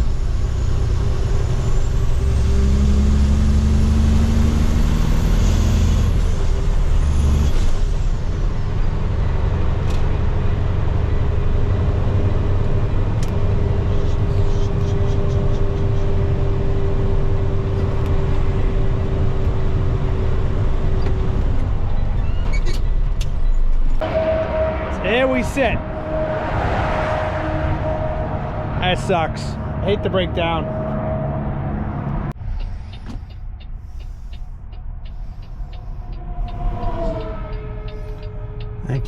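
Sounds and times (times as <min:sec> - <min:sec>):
diesel truck engine rumble: 0:00.0 - 0:39.0
road noise: 0:00.0 - 0:39.0.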